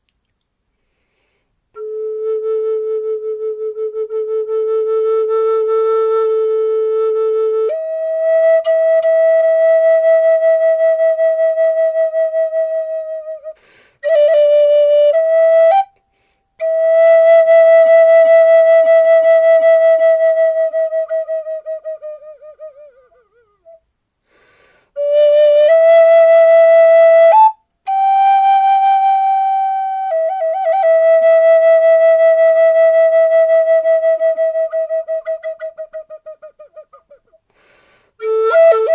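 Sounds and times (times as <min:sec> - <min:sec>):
flute playing long notes: 0:01.8 - 0:16.0, 0:16.6 - 0:23.8, 0:25.0 - 0:37.3, 0:38.2 - 0:38.9.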